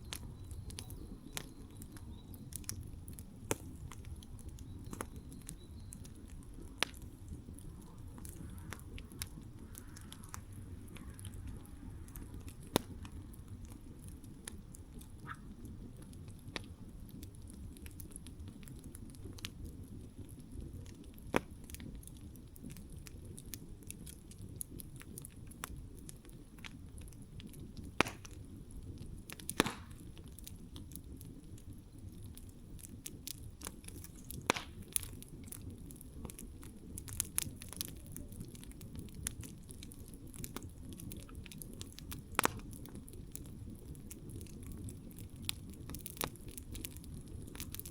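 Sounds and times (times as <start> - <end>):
burning wood crackling and popping: 0.0 - 47.9
low rustle of flame: 0.0 - 47.9.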